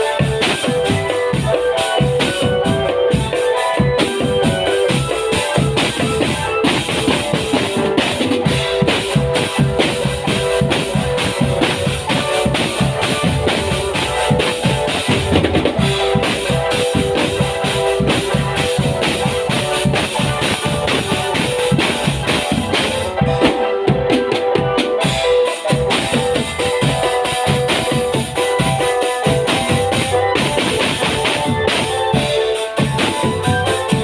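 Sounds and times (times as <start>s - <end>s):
held melodic notes: 0.0s - 34.0s
snare and bass drums: 0.0s - 34.0s.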